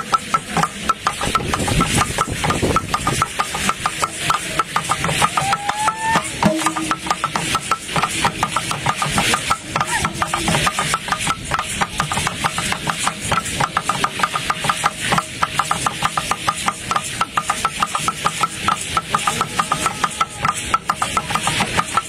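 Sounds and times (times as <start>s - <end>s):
drum beaten fast: 0.0s - 22.0s
rattling hiss: 0.0s - 22.0s.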